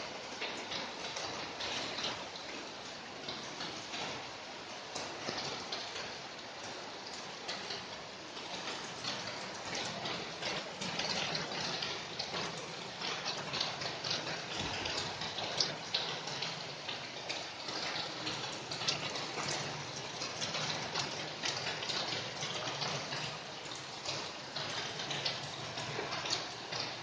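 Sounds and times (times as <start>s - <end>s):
rain falling: 0.0s - 27.0s
raindrops ticking on a surface: 0.0s - 27.0s.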